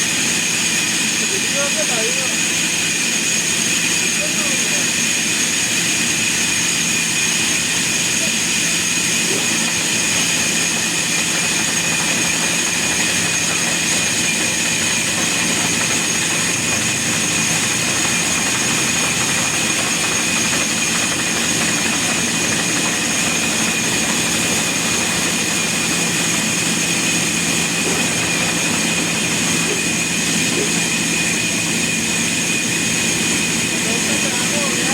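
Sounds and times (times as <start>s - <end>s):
sawmill machinery running: 0.0s - 34.9s.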